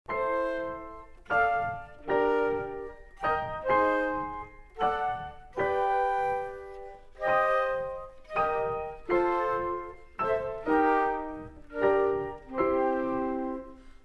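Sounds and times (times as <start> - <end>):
piano chords: 0.1 - 14.0.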